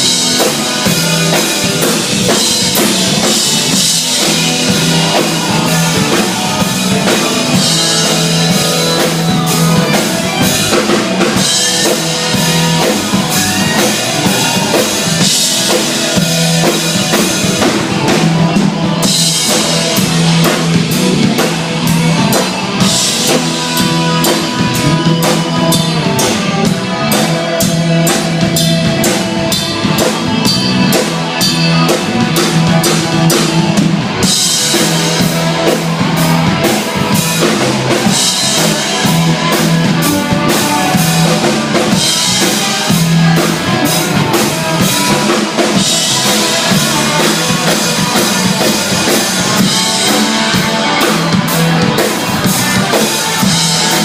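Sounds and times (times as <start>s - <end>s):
drum kit beat: 0.0s - 54.0s
live band playing blues-rock: 0.0s - 54.0s.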